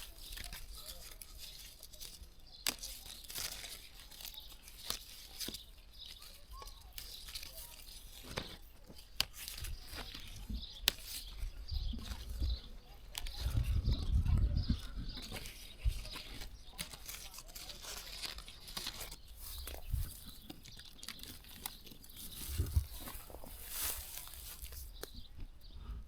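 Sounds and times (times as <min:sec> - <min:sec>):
leaves rustling: 0:00.0 - 0:13.8, 0:14.8 - 0:25.2
fruit snapping off branches: 0:00.1 - 0:11.4, 0:13.1 - 0:13.4, 0:15.2 - 0:25.2.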